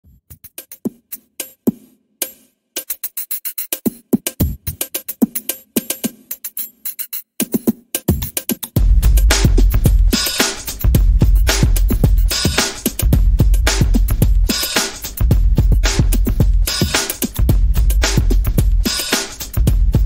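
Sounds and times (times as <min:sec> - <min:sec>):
electronic music with drum-machine beat: 0:00.1 - 0:20.0.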